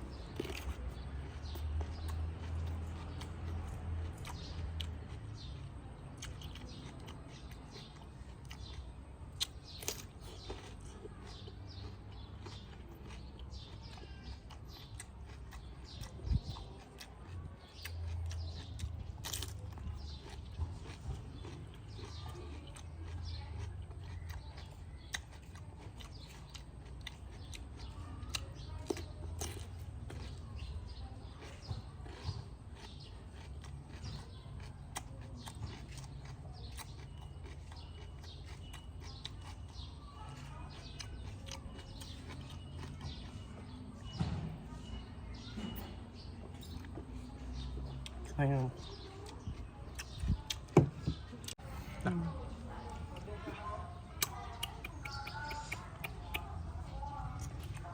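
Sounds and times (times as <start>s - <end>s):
person chewing and eating: 0.0s - 57.9s.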